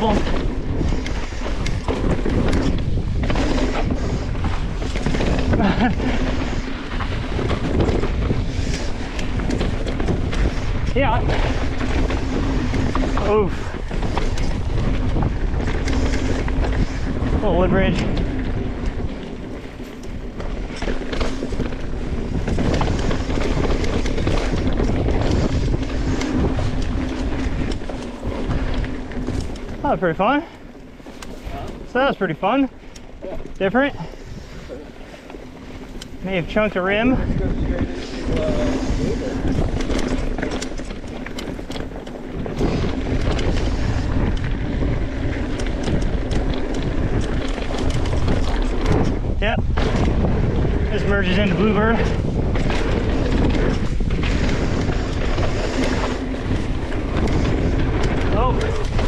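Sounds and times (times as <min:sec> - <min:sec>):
bike rattling over rough ground: 0:00.0 - 0:59.0
bike tyre noise: 0:00.0 - 0:59.0
wind rushing over microphone: 0:00.0 - 0:59.0.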